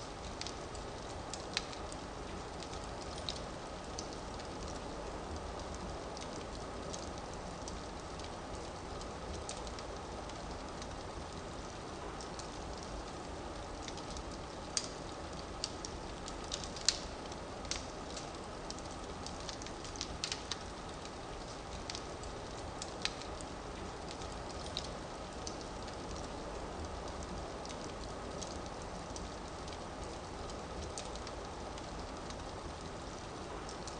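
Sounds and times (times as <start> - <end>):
fire rushing in a fireplace: 0.0 - 33.9
firewood crackling and popping: 0.0 - 33.9.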